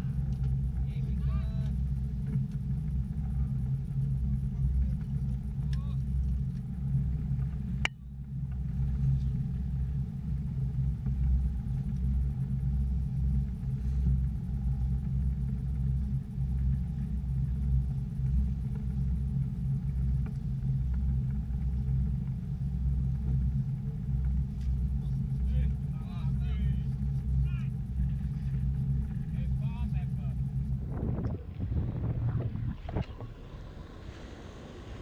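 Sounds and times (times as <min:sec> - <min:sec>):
boat engine rumbling: 0:00.0 - 0:35.0.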